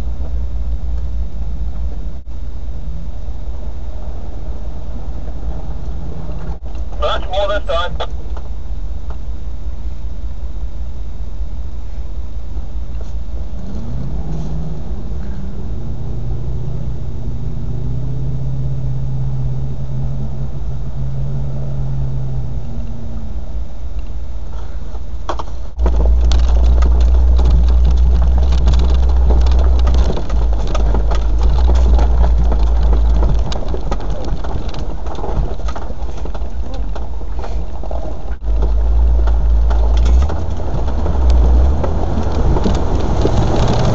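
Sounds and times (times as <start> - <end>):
car engine running: 0.0 - 43.9
loud rumble with crackling: 0.0 - 43.9.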